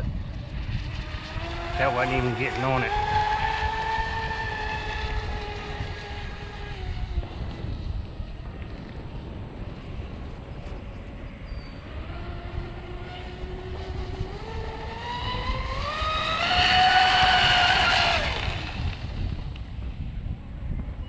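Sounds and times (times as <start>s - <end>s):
electric motors whining: 0.0s - 9.4s, 10.5s - 19.9s
wind rumbling on microphone: 0.0s - 21.0s.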